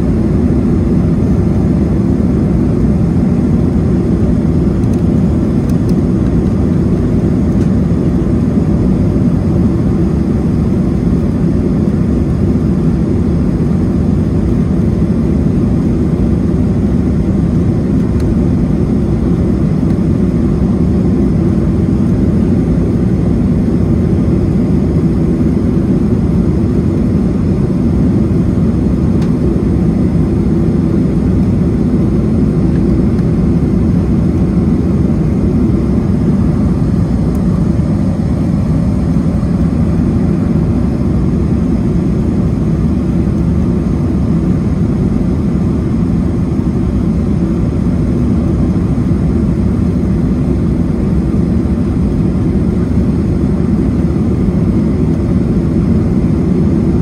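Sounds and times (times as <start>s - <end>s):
jet engine drone in cabin: 0.0s - 57.0s.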